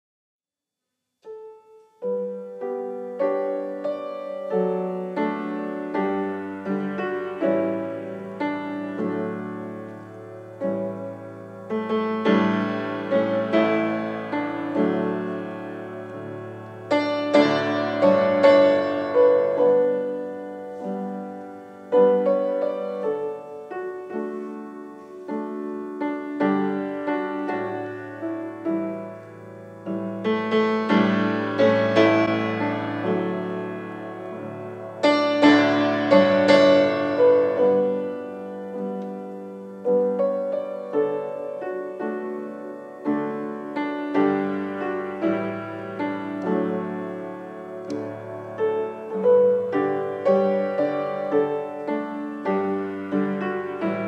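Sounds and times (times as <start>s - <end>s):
slow piano piece: 1.1s - 54.0s.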